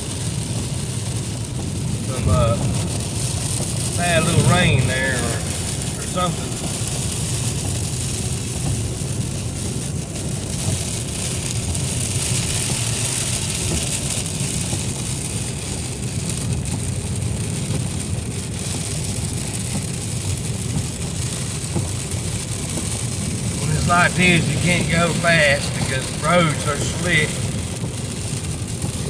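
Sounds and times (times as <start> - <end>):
low road rumble: 0.0 - 29.0
tyres hissing on wet pavement: 0.0 - 29.0.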